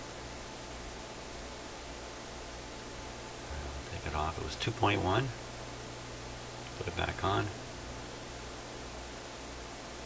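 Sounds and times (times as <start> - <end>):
low steady hum: 0.0 - 10.0
steady hiss: 0.0 - 10.0.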